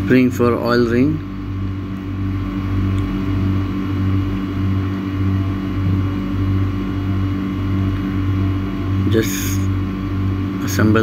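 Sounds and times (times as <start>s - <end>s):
constant higher drone: 0.0s - 11.0s
pulsing low machinery hum: 0.0s - 11.0s.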